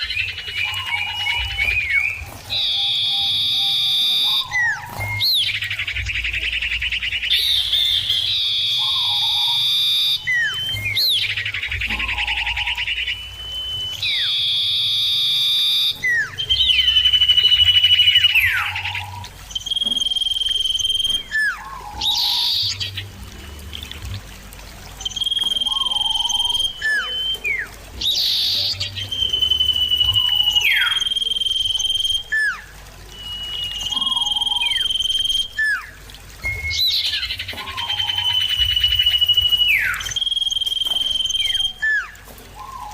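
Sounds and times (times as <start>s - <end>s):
birds calling with trills and whistles: 0.0s - 42.9s.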